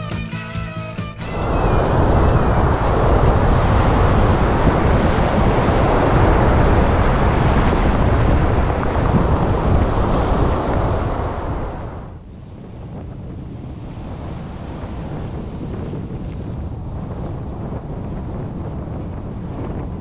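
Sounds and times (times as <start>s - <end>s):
surf on stony beach: 1.2s - 20.0s
wind buffeting microphone: 1.2s - 20.0s.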